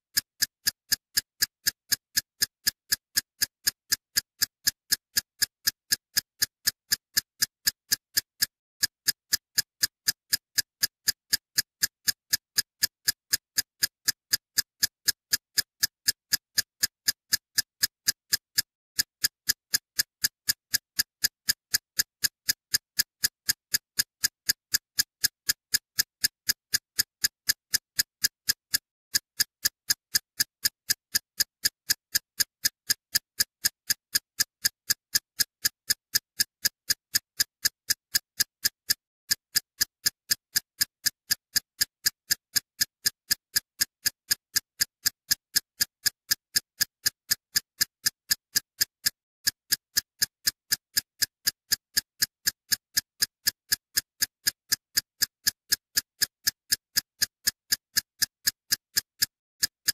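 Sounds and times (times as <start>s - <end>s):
sharp bright ticking clicks: 0.0s - 59.9s.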